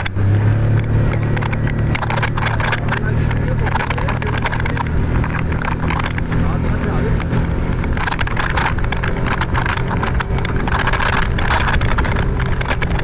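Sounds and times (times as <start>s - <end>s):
outboard motor running: 0.0s - 13.0s
water splashing along hull: 0.0s - 13.0s.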